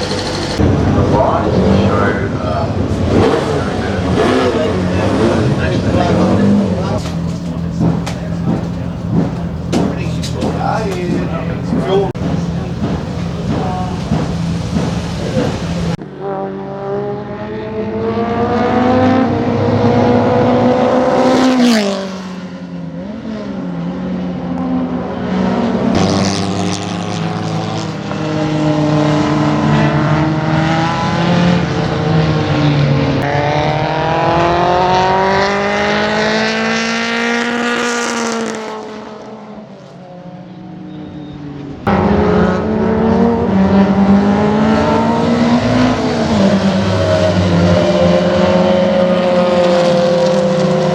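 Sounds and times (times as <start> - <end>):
racing car engine revving: 0.0 - 50.9.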